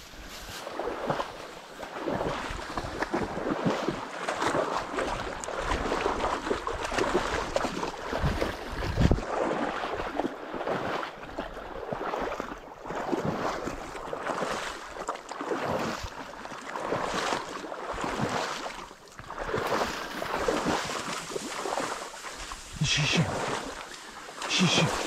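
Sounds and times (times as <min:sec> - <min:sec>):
footsteps through tall grass: 0:00.0 - 0:25.0.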